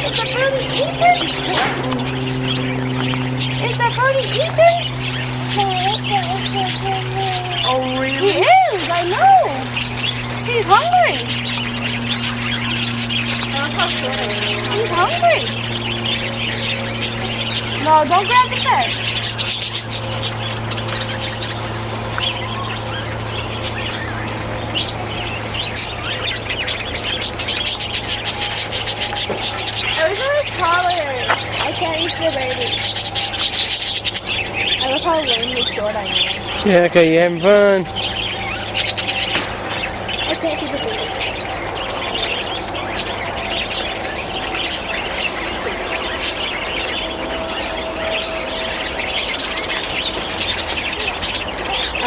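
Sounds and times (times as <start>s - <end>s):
birds chirping and calling: 0.0s - 52.0s
steady low hum: 0.0s - 52.0s.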